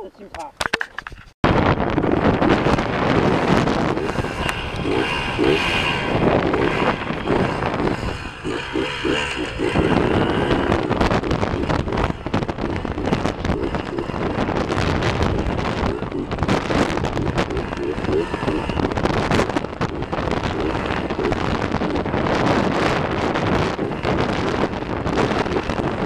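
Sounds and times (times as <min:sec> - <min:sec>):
wind on microphone: 0:00.0 - 0:26.0
dirt bike engine revving: 0:01.6 - 0:26.0.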